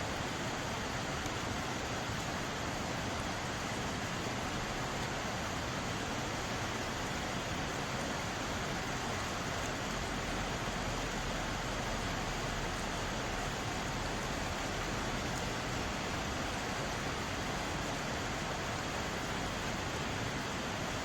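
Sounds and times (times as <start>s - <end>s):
stream water flowing: 0.0s - 21.0s.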